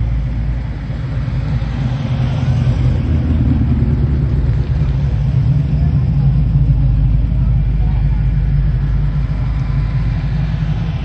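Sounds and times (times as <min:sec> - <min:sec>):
car engines passing slowly: 0:00.0 - 0:11.0.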